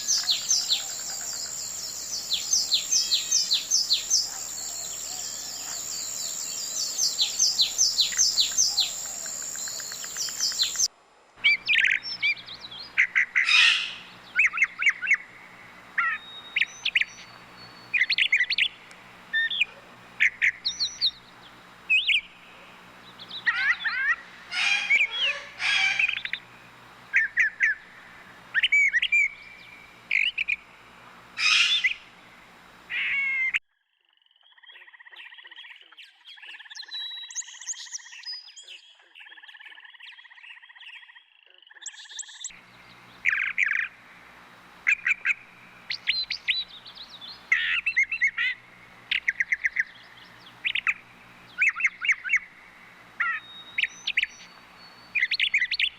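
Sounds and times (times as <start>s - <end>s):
birds chirping: 0.0s - 30.7s, 31.3s - 33.6s, 41.8s - 55.9s.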